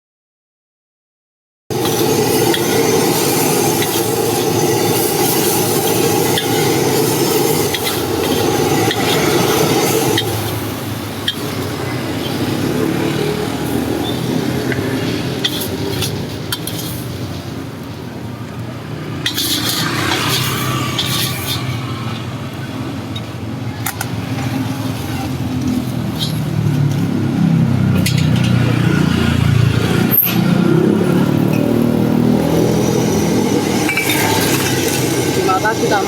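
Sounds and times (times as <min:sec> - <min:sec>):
passing motor vehicles rumble: 0:01.7 - 0:36.0.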